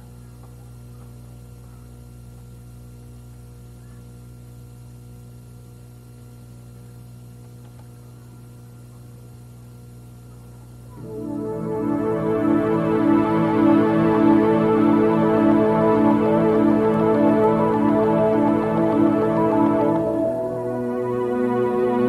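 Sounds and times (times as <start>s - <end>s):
low mains hum: 0.0s - 22.0s.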